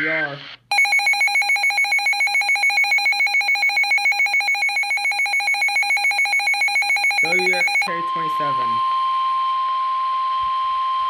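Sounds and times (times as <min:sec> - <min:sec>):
electronic alarm beep pulsing: 0:00.7 - 0:11.0.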